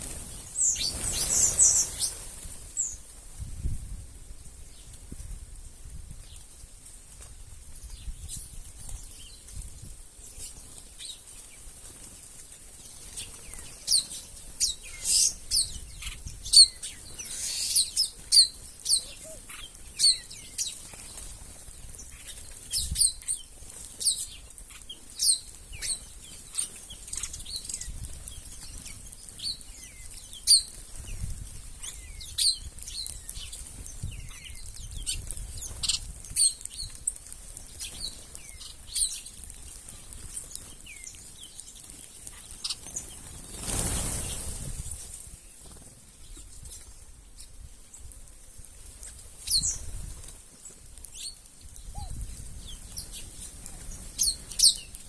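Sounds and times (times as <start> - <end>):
wild birds chirping: 0.0 - 3.1, 10.2 - 48.1, 49.0 - 55.0.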